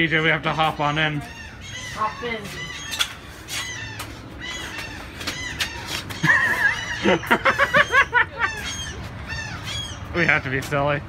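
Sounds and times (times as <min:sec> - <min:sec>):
birds chirping: 0:00.0 - 0:11.0
harsh bird calls: 0:00.0 - 0:11.0.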